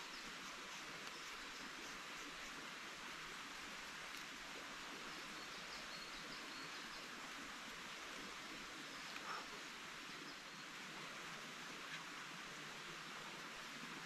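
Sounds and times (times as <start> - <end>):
rustle: 0.0 - 14.0
steady forest hiss: 0.0 - 14.0.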